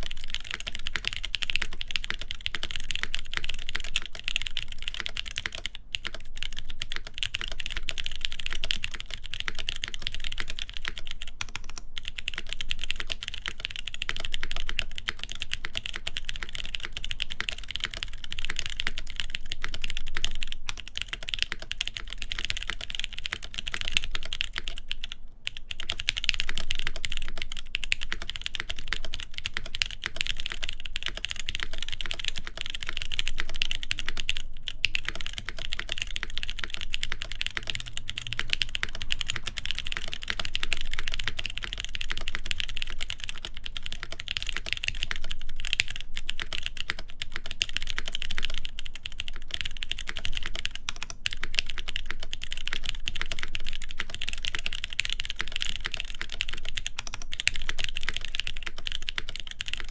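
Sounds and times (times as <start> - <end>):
fast mechanical keyboard typing: 0.0 - 59.9.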